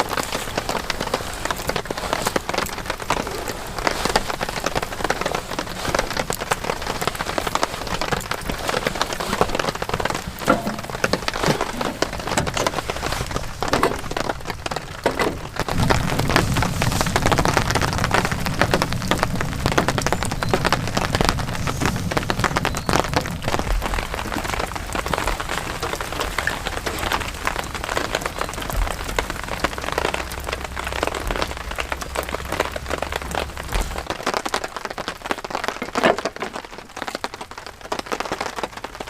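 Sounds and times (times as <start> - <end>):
heavy rain on a surface: 0.0 - 39.0.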